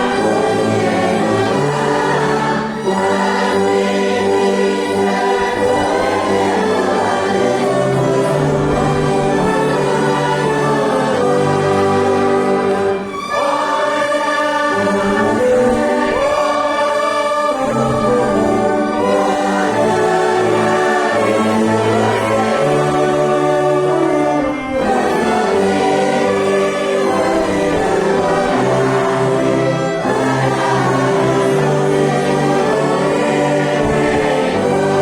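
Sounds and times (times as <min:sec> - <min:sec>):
congregation singing a hymn: 0:00.0 - 0:35.0
orchestra playing held chords: 0:00.0 - 0:35.0.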